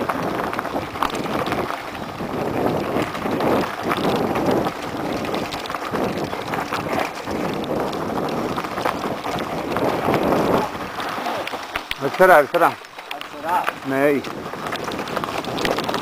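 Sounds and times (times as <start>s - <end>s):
bike rattling clicks: 0.0s - 16.0s
tyres over loose stones: 0.0s - 16.0s
wind buffeting microphone: 0.0s - 16.0s.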